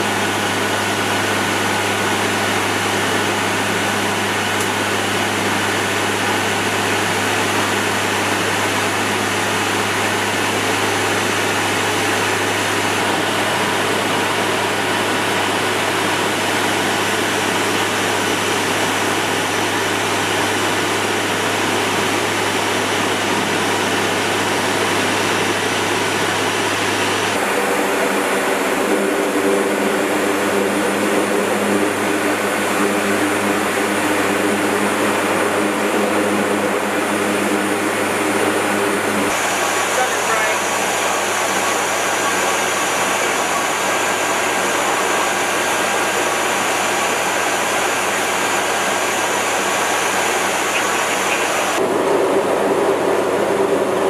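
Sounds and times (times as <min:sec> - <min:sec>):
turboprop engines droning in cabin: 0:00.0 - 0:54.0.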